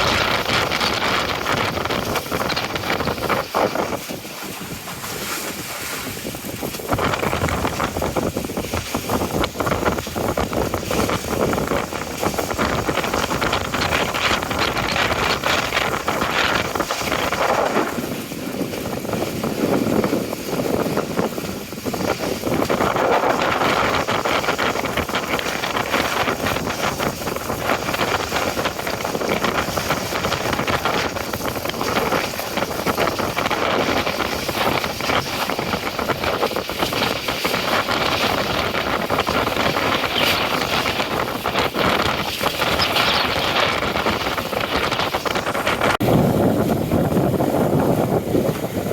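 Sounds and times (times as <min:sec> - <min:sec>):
water rushing past hull: 0:00.0 - 0:48.9
wind blowing on microphone: 0:00.0 - 0:48.9.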